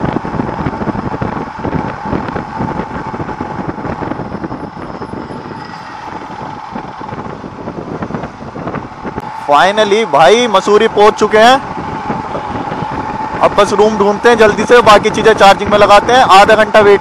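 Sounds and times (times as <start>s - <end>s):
motorcycle engine: 0.0s - 16.0s
wind noise on microphone: 0.0s - 17.0s.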